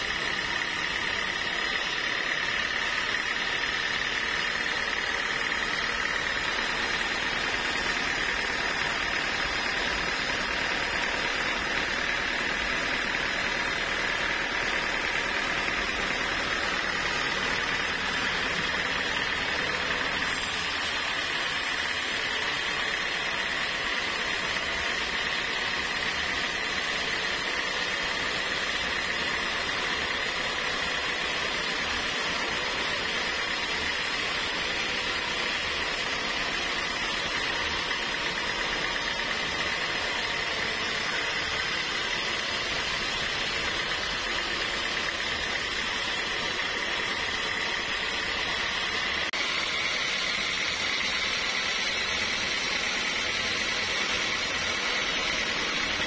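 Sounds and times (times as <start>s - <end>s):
band saw blade cutting log: 0.0s - 56.0s.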